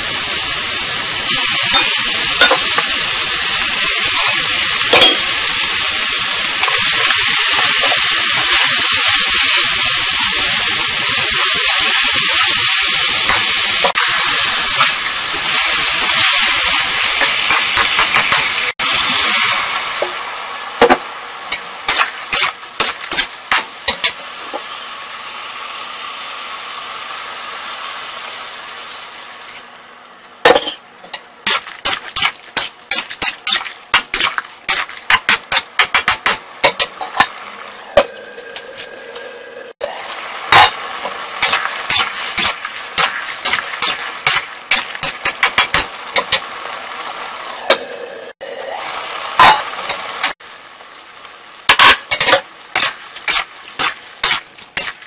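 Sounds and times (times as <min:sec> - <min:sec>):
mushrooms sizzling in oil: 0:00.0 - 0:30.1, 0:31.4 - 0:55.0.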